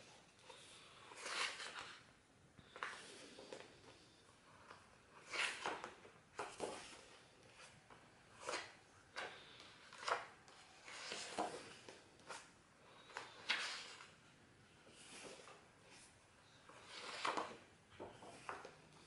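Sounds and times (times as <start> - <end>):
book pages turning: 0.5 - 19.0.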